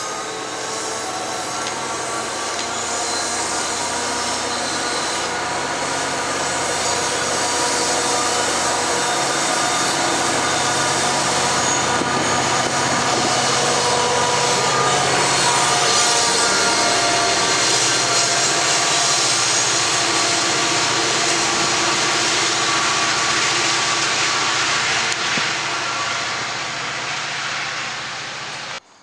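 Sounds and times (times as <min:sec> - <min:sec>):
train wheels rumbling on rail: 0:00.0 - 0:28.9
diesel locomotive: 0:00.0 - 0:29.0.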